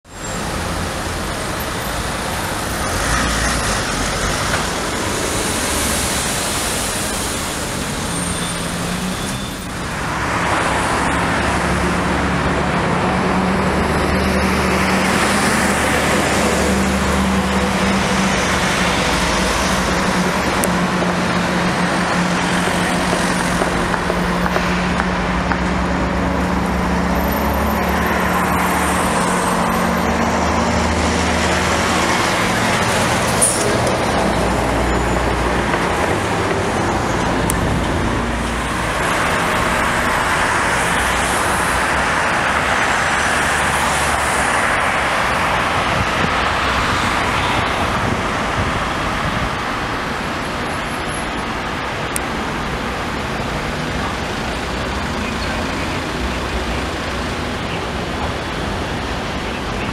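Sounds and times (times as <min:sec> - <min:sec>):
city road traffic: 0:00.0 - 0:59.9.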